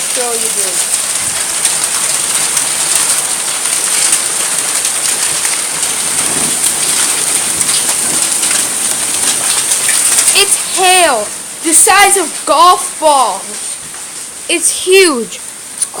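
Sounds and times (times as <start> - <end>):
hailstones ticking on hard surfaces: 0.0 - 16.0
heavy rain hissing: 0.0 - 16.0.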